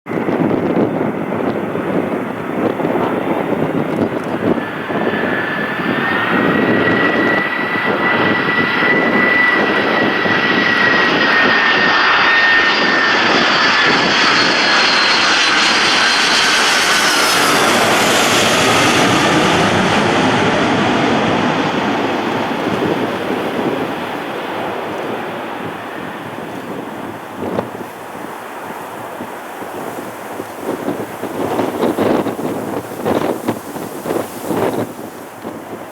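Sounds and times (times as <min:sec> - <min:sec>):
high engine whine: 0:00.1 - 0:35.8
jet airliner passing: 0:00.1 - 0:35.9.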